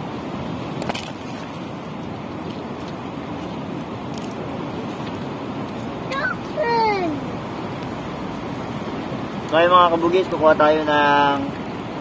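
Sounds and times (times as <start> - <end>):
surf rushing: 0.0 - 12.0
wind: 0.0 - 12.0.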